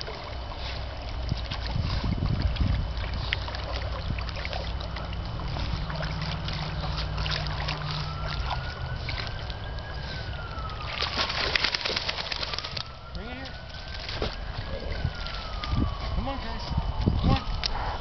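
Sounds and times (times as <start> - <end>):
dog splashing in water: 0.0 - 16.6
low steady rumble: 0.0 - 18.0.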